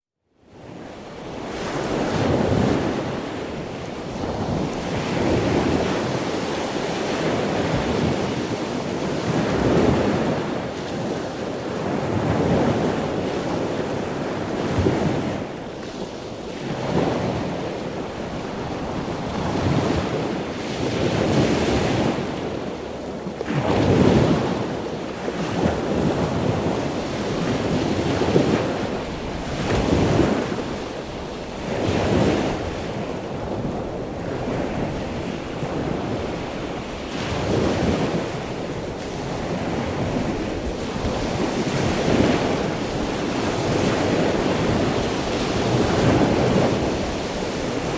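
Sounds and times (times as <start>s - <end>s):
ocean waves breaking: 1.0s - 47.9s.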